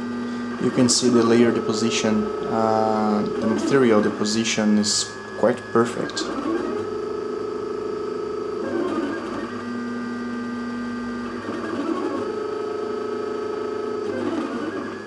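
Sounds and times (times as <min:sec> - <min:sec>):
printer stepper motors whining: 0:00.0 - 0:15.0.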